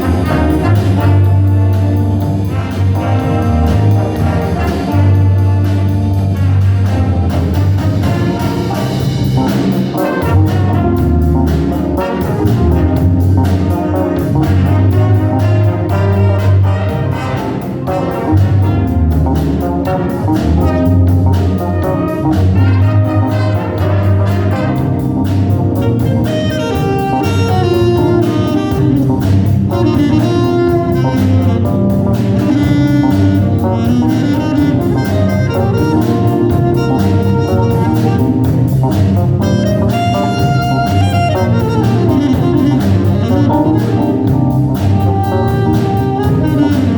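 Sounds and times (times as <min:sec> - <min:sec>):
jazz band playing: 0:00.0 - 0:46.9
saxophone and brass tune: 0:00.0 - 0:46.9.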